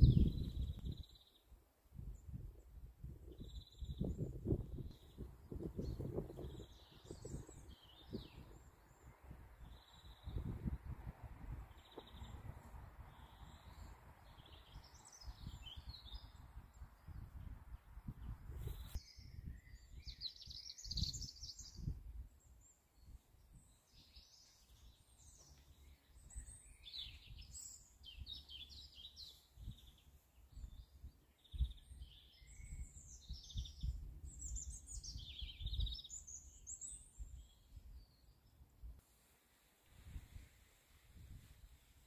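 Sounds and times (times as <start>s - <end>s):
small songbirds trilling: 3.2s - 10.9s, 11.6s - 38.6s.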